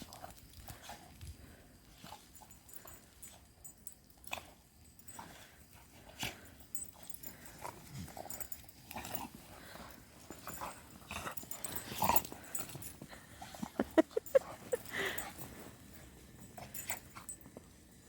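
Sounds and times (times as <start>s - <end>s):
dogs playing in snow: 0.0s - 18.0s.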